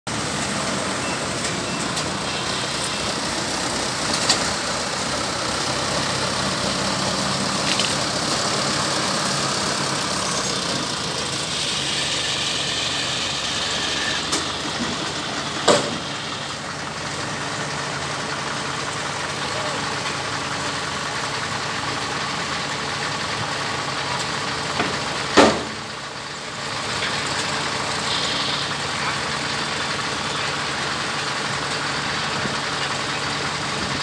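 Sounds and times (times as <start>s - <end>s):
tracked vehicle engine running: 0.1s - 34.0s.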